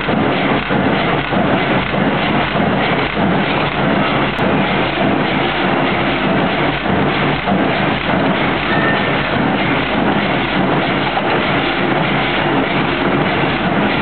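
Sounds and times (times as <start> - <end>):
forging hammer mechanical din: 0.0 - 14.0.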